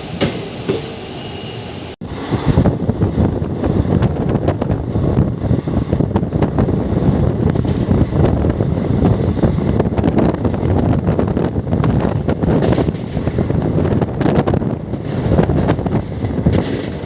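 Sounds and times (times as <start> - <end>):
train running at speed: 0.0 - 17.0
wind buffeting microphone: 2.0 - 17.0.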